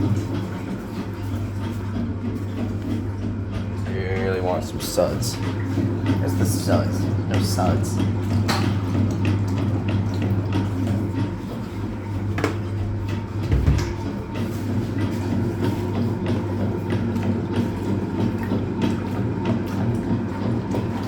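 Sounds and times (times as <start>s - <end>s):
washing machine clicking and churning: 0.0s - 21.0s
washing machine motor hum: 0.0s - 21.0s.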